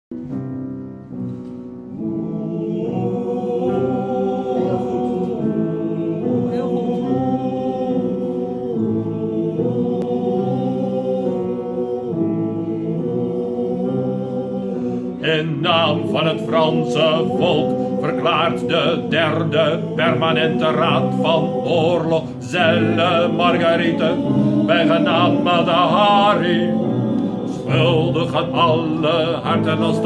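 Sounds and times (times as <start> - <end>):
choir singing sustained chords: 1.9 - 30.0.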